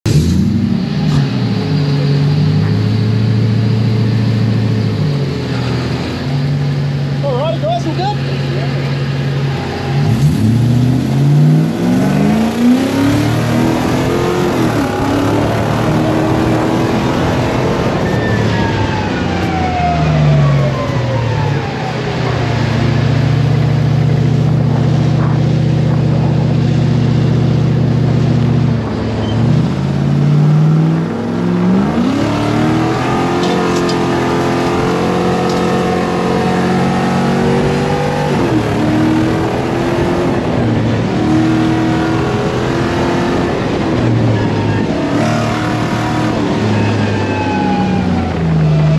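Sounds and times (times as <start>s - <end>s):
off-road vehicle engine revving: 0.0s - 48.9s
high engine whine: 0.1s - 48.9s.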